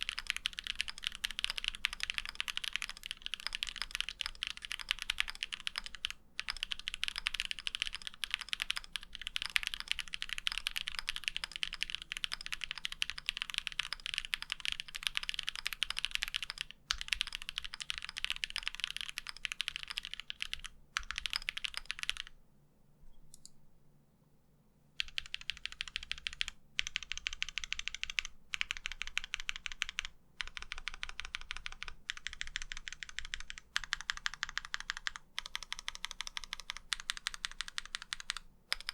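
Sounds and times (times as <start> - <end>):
mechanical keyboard typing: 0.0 - 22.4, 25.0 - 38.9.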